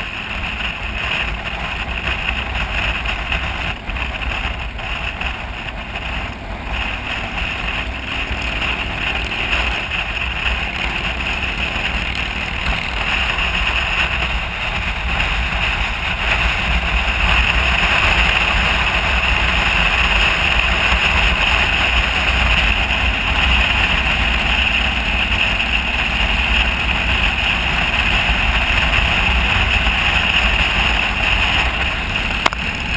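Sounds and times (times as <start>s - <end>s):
motorcycle engine: 0.0s - 32.9s
road noise: 0.0s - 32.9s.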